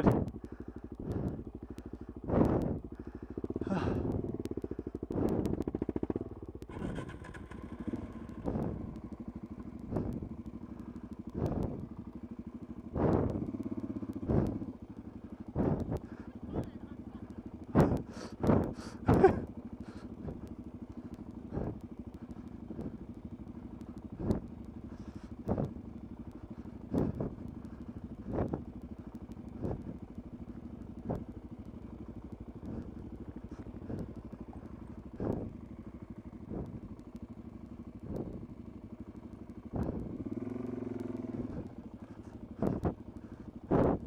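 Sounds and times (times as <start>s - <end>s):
knocks and clatter over rough ground: 0.0s - 44.0s
motorcycle engine running: 0.0s - 44.0s.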